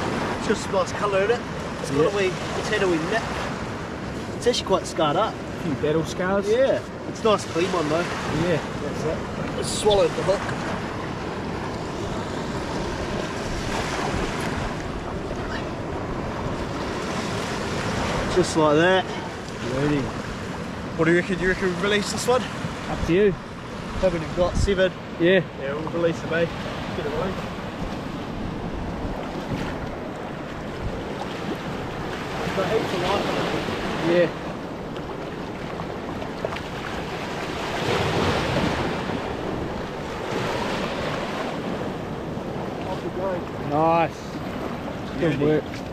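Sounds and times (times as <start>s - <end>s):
surf washing on a beach: 0.0s - 45.9s
wind blowing across microphone: 0.0s - 45.9s.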